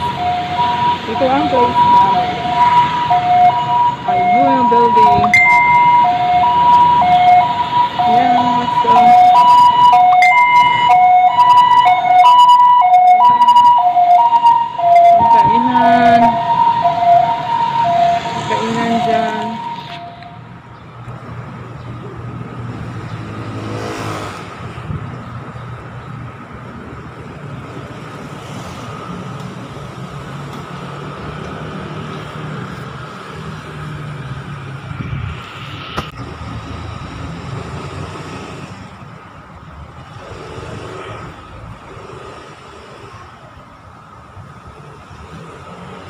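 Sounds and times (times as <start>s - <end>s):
rumble of traffic engines: 0.0s - 46.0s
vehicles passing close by: 0.0s - 46.0s.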